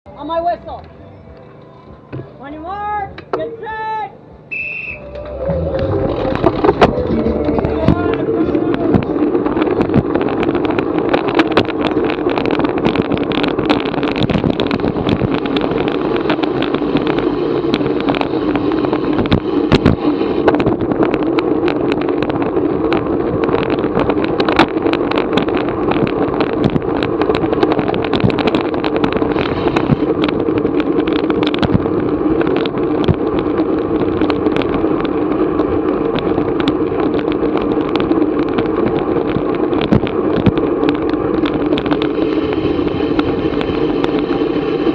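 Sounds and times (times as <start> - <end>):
wind and road noise: 0.1 - 44.9
bicycle clicks and rattles: 5.1 - 44.9.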